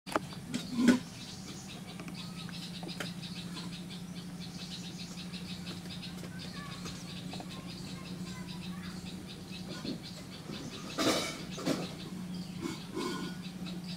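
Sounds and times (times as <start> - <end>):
steady low hum: 0.1 - 13.9
fast high chirping pulses: 0.3 - 13.9.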